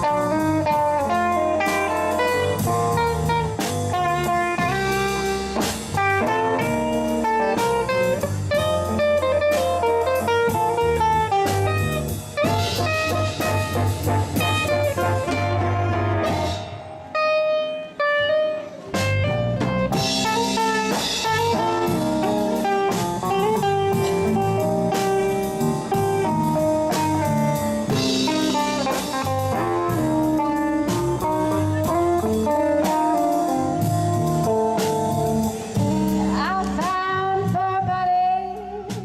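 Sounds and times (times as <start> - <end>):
blues-rock band playing: 0.0 - 39.0.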